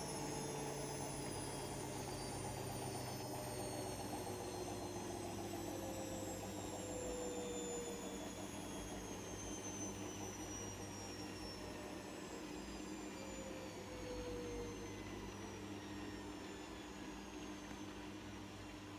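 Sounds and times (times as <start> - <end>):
washing machine spin winding down: 0.0 - 18.9.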